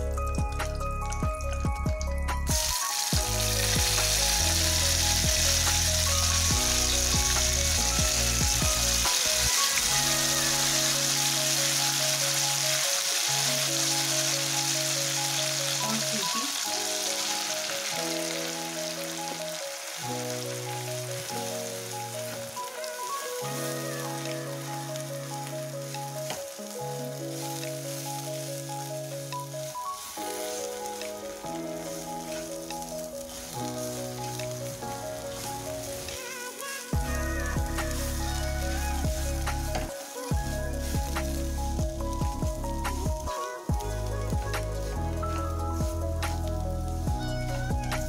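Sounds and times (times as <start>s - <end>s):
slow chords background music: 0.0s - 48.0s
spinach sizzling in a pan: 2.4s - 48.0s.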